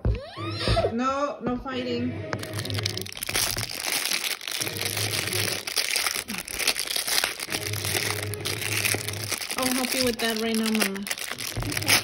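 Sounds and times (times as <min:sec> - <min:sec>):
plastic wrapping crinkling: 0:02.4 - 0:12.0.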